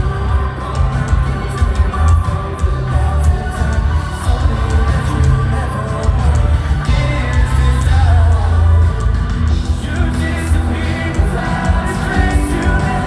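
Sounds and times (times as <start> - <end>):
crowd cheering: 0.0 - 13.0
live band playing loudly: 0.0 - 13.0.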